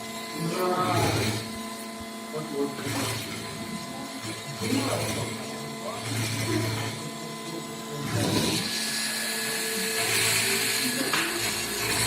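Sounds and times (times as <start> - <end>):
drilling machine motors whining: 0.0 - 12.0.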